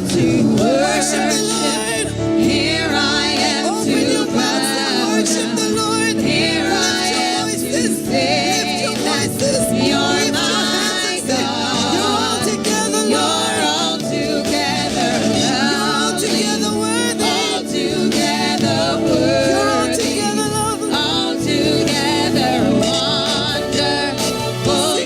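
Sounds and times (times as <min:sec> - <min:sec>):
held accompaniment: 0:00.0 - 0:25.0
voices singing gospel: 0:00.0 - 0:25.0.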